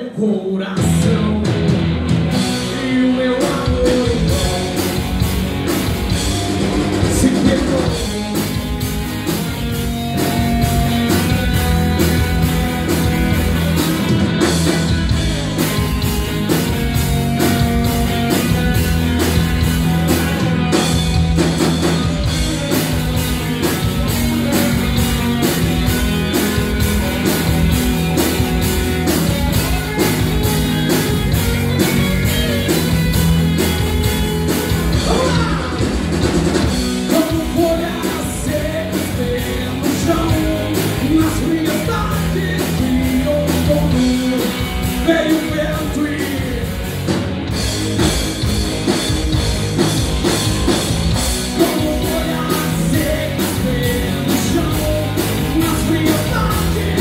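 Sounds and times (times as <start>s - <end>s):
bass guitar: 0.0s - 57.0s
electric guitars: 0.0s - 57.0s
drum kit beat: 0.8s - 57.0s.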